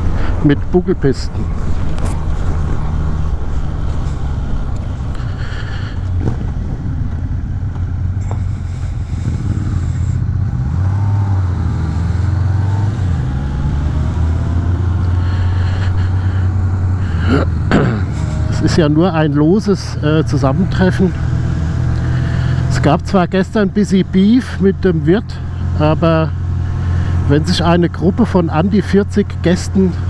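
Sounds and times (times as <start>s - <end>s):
motorcycle engine running: 1.5s - 30.0s.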